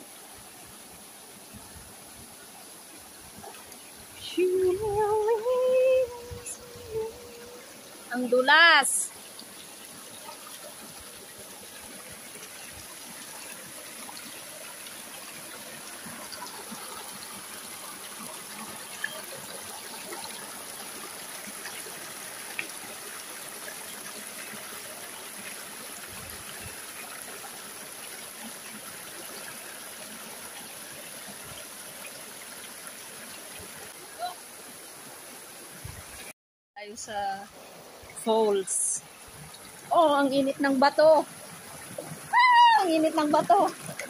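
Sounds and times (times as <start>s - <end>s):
stream trickling over rocks: 0.0s - 44.0s.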